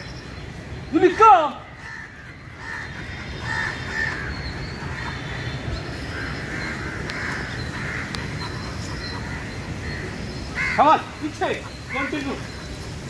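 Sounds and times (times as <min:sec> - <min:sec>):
crows cawing: 0:01.6 - 0:12.5.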